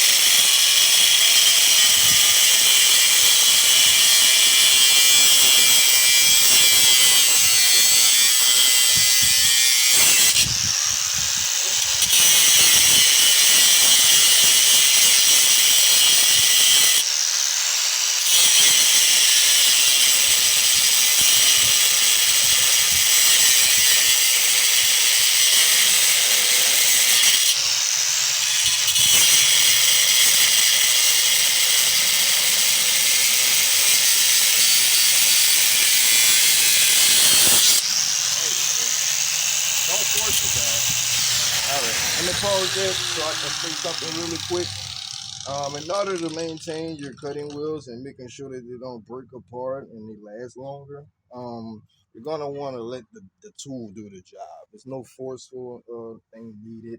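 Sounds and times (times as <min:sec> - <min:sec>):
abrasive wheel grinding metal: 0:00.0 - 0:47.6.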